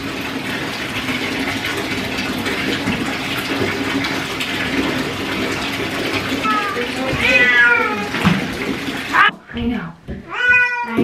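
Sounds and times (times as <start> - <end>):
tap running into bathtub water: 0.0 - 11.0.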